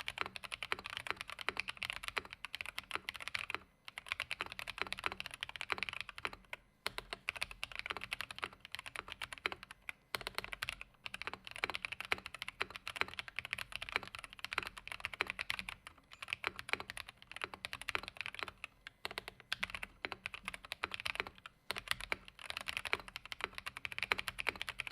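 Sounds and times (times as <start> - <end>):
fast typing on mechanical keyboard: 0.0 - 24.9.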